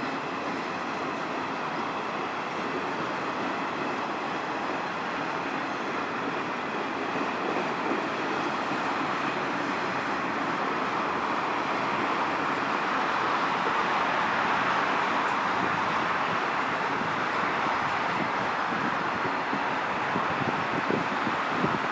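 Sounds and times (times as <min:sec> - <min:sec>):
freight train wheels rumbling: 0:00.0 - 0:21.9.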